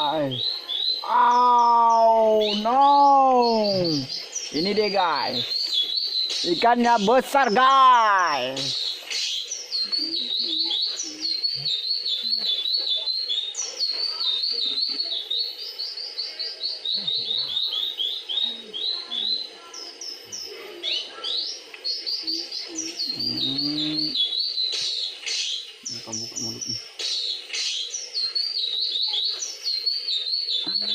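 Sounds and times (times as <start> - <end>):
songbird chirping: 0.0 - 30.9.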